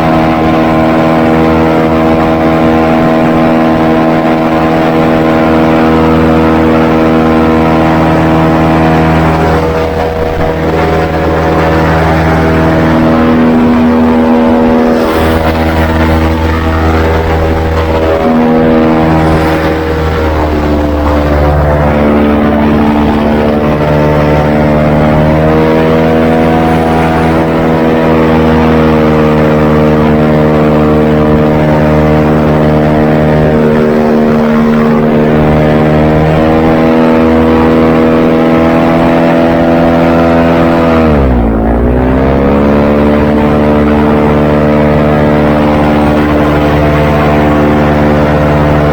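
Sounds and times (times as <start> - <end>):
airboat engine and propeller: 0.0 - 48.9.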